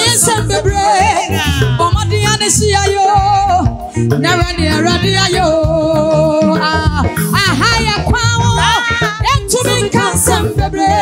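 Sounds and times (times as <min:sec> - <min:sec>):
backing music with bass line: 0:00.0 - 0:11.0
women singing: 0:00.0 - 0:11.0.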